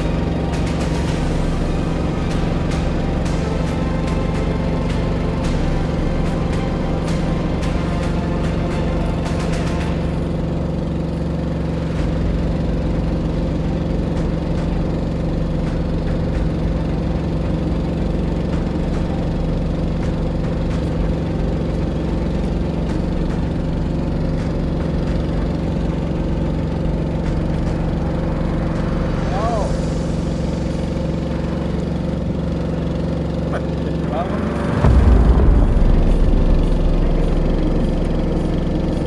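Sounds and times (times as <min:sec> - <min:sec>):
boat motor droning: 0:00.0 - 0:39.0.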